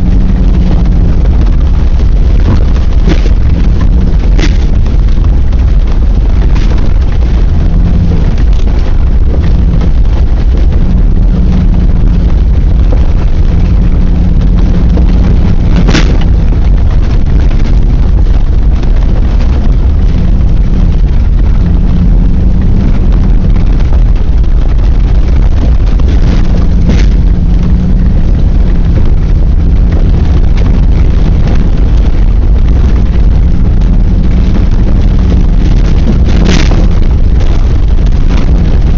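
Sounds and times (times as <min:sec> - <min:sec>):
engine hum: 0:00.0 - 0:38.9
vehicle rumbling over gravel: 0:00.0 - 0:38.9.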